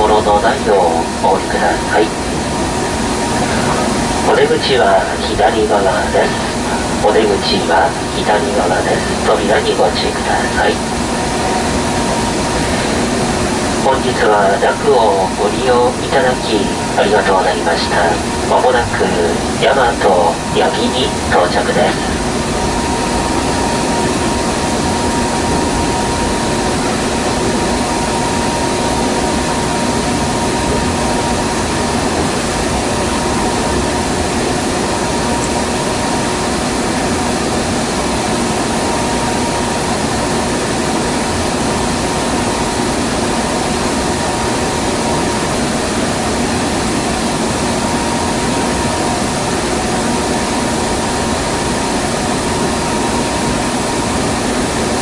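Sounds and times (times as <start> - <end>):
constant hums: 0.0 - 55.0
train running noise rumble and hiss: 0.0 - 55.0.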